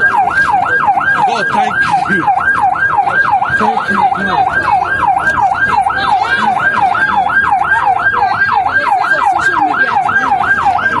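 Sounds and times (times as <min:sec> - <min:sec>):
emergency siren yelping: 0:00.0 - 0:11.0.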